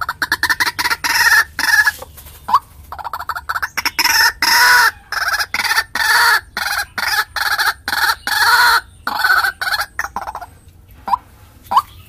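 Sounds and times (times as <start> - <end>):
waterhen calling rough notes: 0.0 - 12.0.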